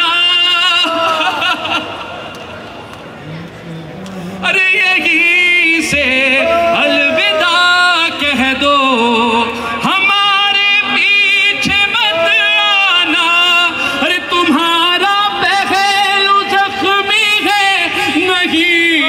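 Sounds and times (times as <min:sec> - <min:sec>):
person singing mourning chant: 0:03.2 - 0:19.0.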